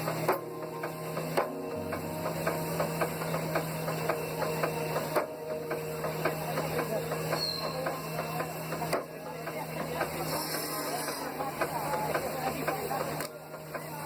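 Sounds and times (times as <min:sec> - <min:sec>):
machinery clattering knocks: 0:00.0 - 0:14.0
steady hum: 0:00.0 - 0:14.0.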